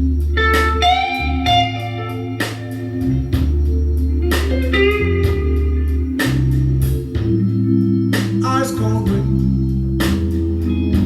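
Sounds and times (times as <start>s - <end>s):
blues band playing: 0.0s - 11.0s
lead guitar bending notes: 0.0s - 11.0s.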